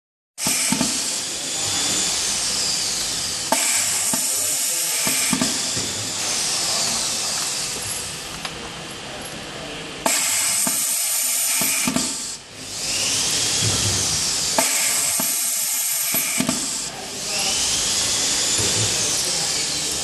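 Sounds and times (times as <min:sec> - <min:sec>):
compressed air hissing: 0:00.4 - 0:07.8, 0:10.0 - 0:19.7.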